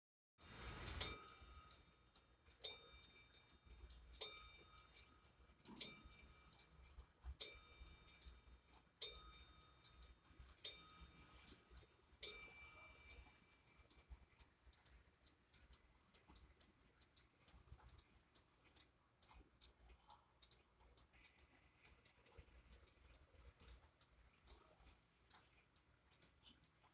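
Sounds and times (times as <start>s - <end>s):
faint clock ticking: 0.4s - 26.9s.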